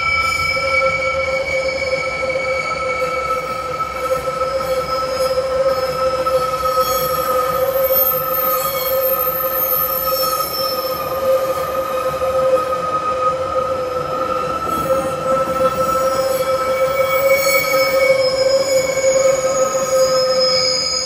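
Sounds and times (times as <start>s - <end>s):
wheel squeal: 0.0s - 21.0s.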